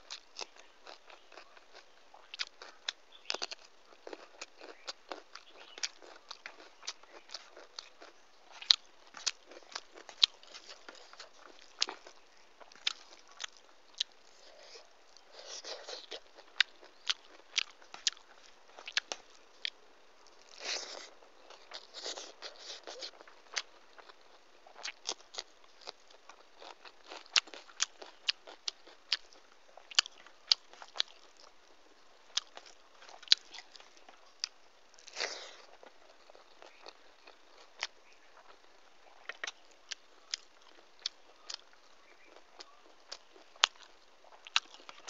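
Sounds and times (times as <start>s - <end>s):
chewing with wet mouth clicks: 0.0s - 31.6s, 32.3s - 45.0s.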